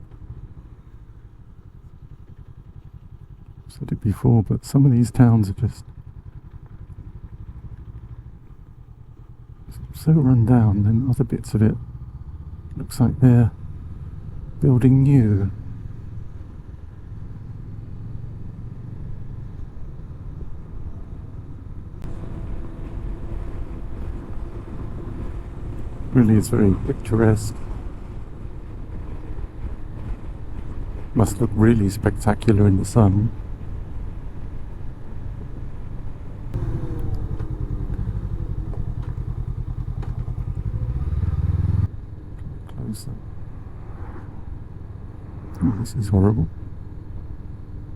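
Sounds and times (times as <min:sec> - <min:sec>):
motorcycle engine running: 0:00.0 - 0:04.2, 0:04.8 - 0:42.2
road and wind rumble: 0:00.0 - 0:47.9.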